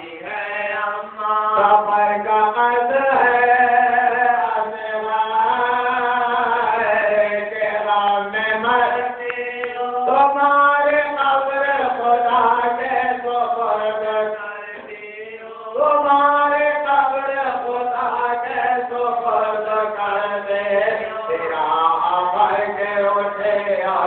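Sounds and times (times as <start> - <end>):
person chanting melodically: 0.0 - 24.0.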